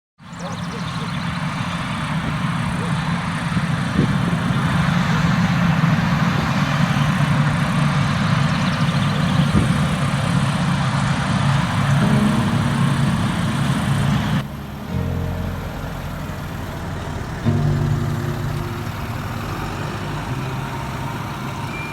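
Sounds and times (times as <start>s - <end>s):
vehicle engine idling: 0.2s - 21.9s.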